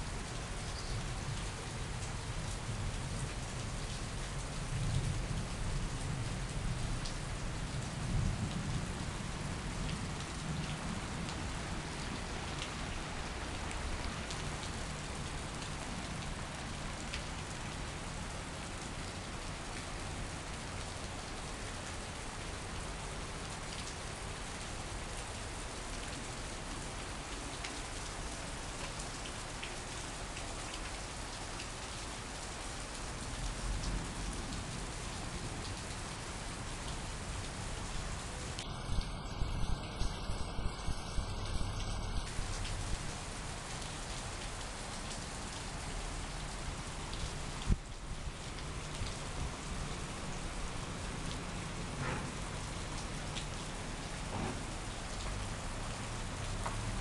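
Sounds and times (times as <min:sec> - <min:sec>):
heavy rain on paving and foliage: 0:00.0 - 0:57.0.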